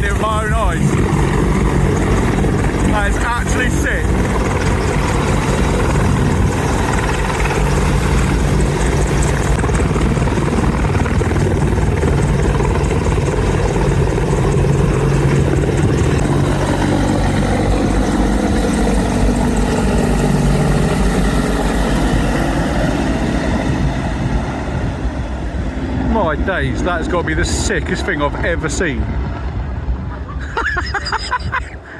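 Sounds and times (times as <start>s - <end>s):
helicopter rotor and engines: 0.0s - 31.9s.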